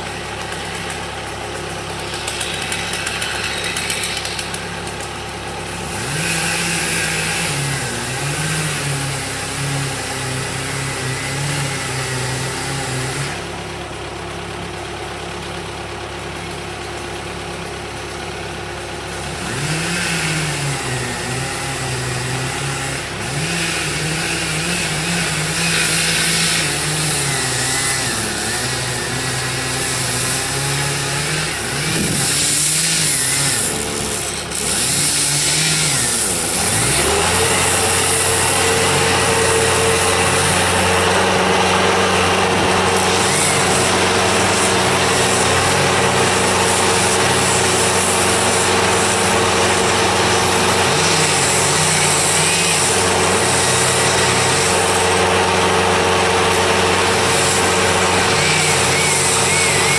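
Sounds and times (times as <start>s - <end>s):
steady engine drone: 0.0s - 59.9s
engine revving up and down: 5.8s - 13.4s, 19.2s - 59.9s.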